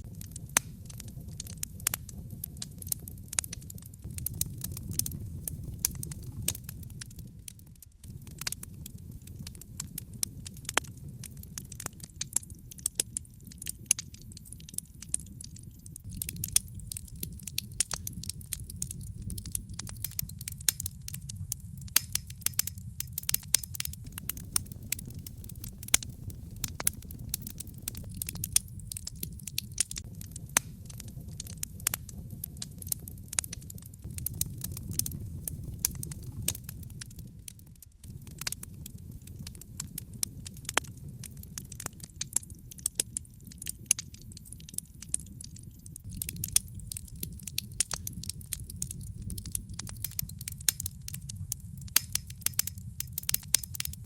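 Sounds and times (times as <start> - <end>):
burning logs crackling and popping: 0.0 - 54.0
low rumble of flames: 0.0 - 54.0.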